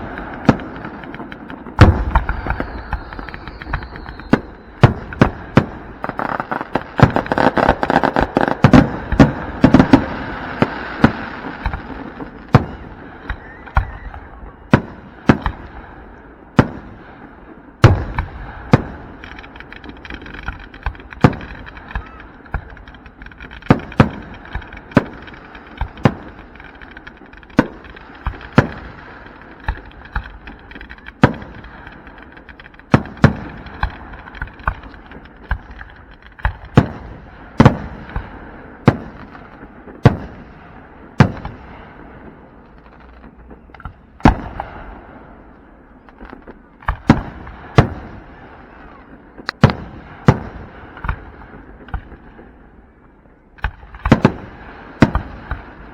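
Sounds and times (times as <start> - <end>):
firework shells booming: 0.0 - 52.6, 53.6 - 55.9.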